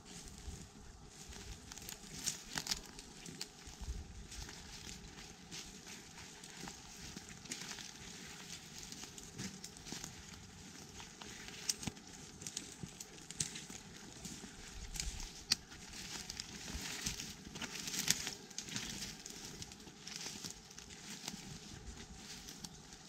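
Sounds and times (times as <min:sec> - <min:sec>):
twigs and leaves rustling: 0:00.0 - 0:23.0.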